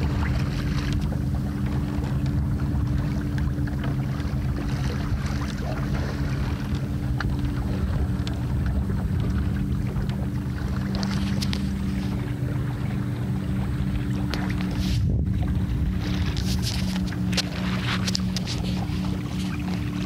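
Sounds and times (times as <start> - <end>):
light water splashes: 0.0 - 20.0
steady low hum: 0.0 - 20.0
water washing along a hull: 0.0 - 20.0
wind buffeting the microphone: 0.0 - 20.0.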